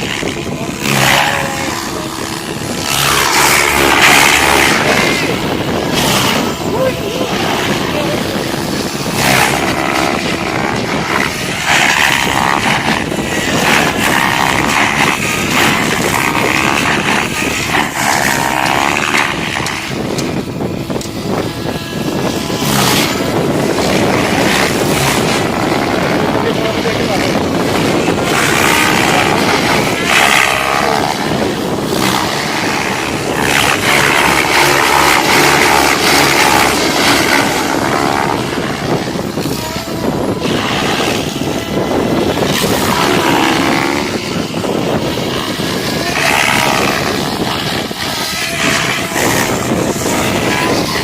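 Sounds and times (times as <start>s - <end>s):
rc helicopter motor whine: 0.0s - 51.0s
wind rumbling on microphone: 0.0s - 51.0s.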